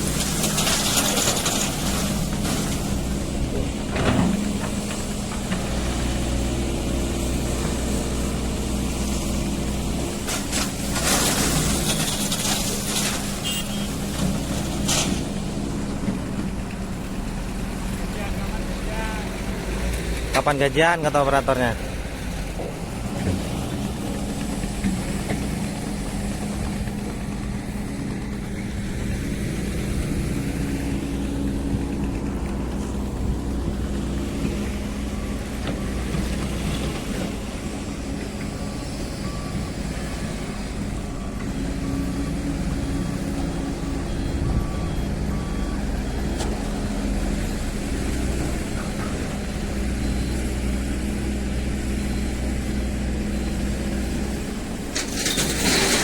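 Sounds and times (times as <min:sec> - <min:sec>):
excavator diesel engines droning: 0:00.0 - 0:56.0.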